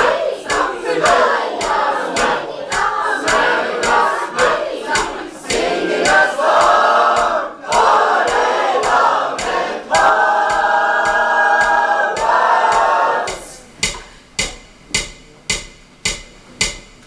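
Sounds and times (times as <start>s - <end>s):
choir singing a rhythmic chant: 0.0s - 13.7s
steady ticking: 0.0s - 17.0s.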